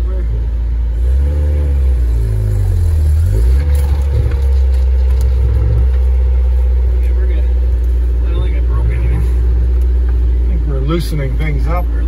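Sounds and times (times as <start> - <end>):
heavy low rumble: 0.0 - 12.0
truck engine revving: 0.0 - 12.0.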